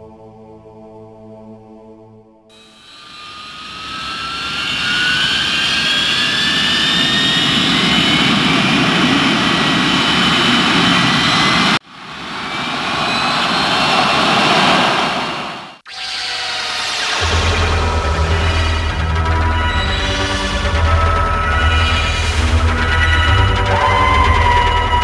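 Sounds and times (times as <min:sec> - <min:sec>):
jet engine rush with rising whine: 0:02.5 - 0:25.0.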